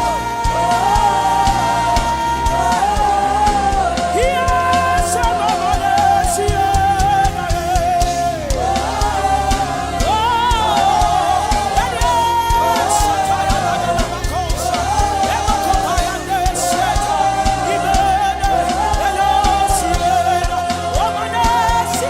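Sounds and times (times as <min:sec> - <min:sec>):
bass line: 0:00.0 - 0:22.0
drum beat: 0:00.0 - 0:22.0.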